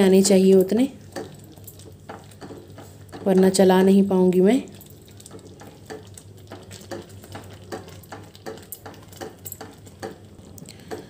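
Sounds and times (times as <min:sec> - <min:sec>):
spatula stirring bubbling pudding: 0:00.3 - 0:11.0.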